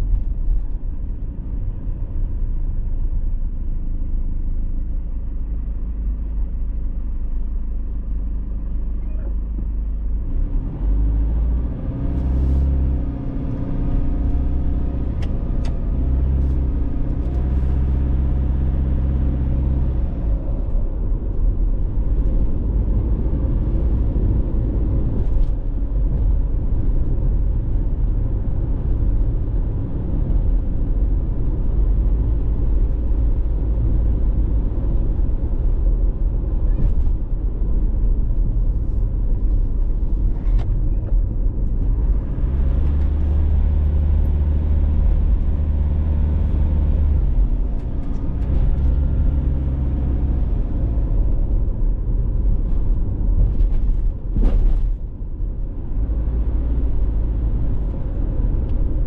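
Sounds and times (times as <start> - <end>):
tyre and engine rumble: 0.0 - 59.0.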